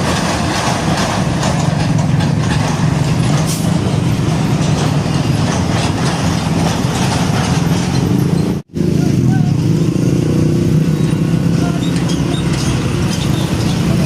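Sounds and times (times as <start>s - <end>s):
road traffic noise: 0.0s - 14.0s
diesel truck engine droning: 1.4s - 14.0s.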